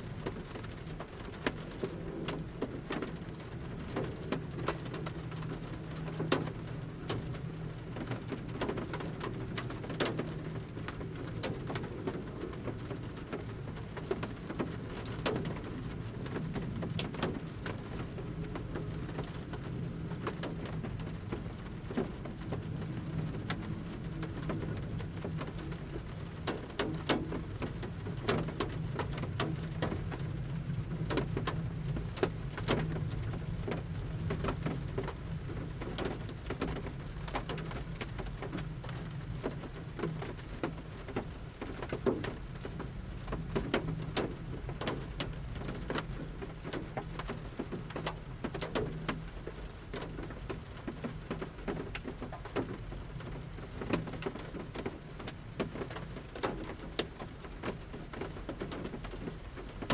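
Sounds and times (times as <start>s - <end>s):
raindrops tapping on a metal roof: 0.0s - 59.9s.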